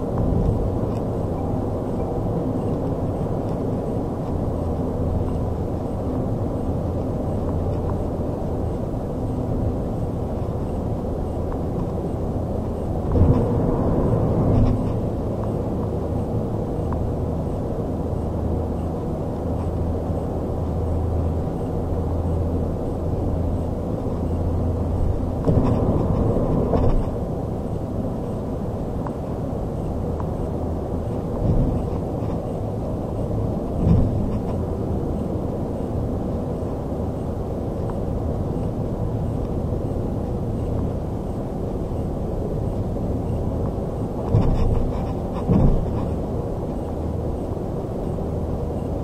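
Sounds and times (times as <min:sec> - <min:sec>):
car interior road and engine rumble: 0:00.0 - 0:49.0.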